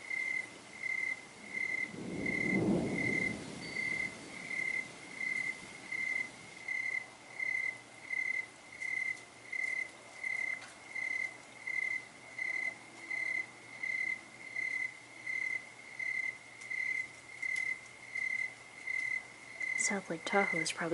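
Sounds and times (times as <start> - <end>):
cricket chirping: 0.0 - 20.9.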